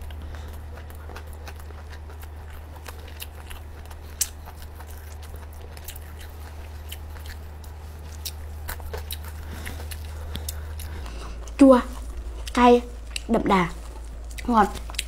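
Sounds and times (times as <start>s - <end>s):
mouth chewing wet clicks: 0.0s - 15.0s.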